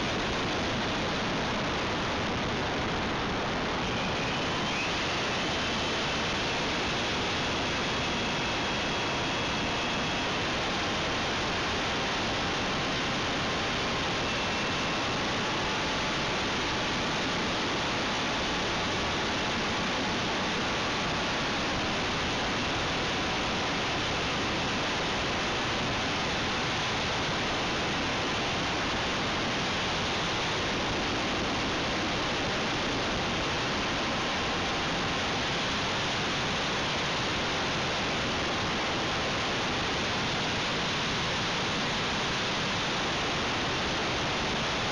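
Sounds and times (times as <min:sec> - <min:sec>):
faint whine: 0:00.0 - 0:44.9.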